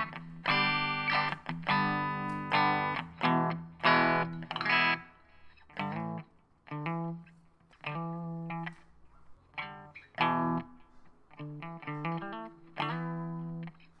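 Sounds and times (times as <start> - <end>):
guitar playing short chords: 0.0 - 8.8, 9.6 - 13.8.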